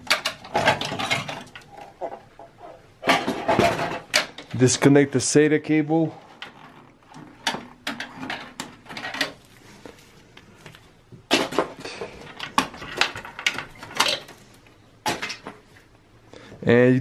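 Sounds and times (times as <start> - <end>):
cables and connectors rattling: 0.0 - 4.9, 6.0 - 15.9.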